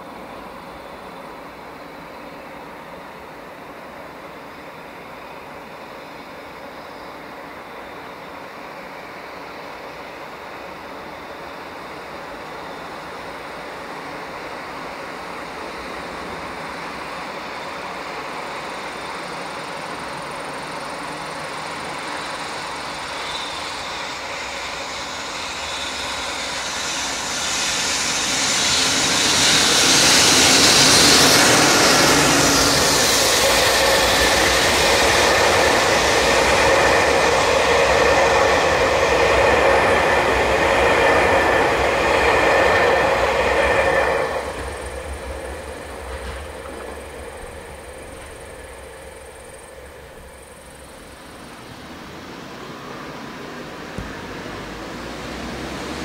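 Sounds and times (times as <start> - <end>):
locomotive rumble passing: 0.0 - 56.0
train cars rolling: 0.0 - 56.0.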